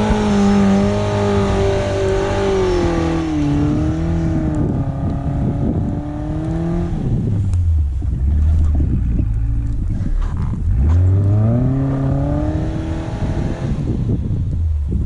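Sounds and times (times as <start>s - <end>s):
engine running hard: 0.0s - 15.0s.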